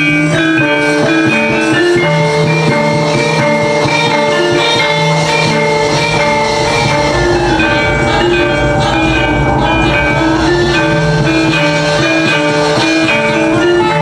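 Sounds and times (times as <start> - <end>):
drums: 0.0 - 14.0
metallophones playing a melody: 0.0 - 14.0
low gong tone: 0.6 - 14.0.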